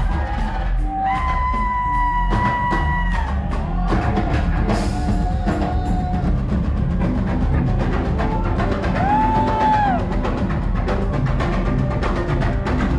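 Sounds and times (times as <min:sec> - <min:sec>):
live rock band playing: 0:00.0 - 0:12.9.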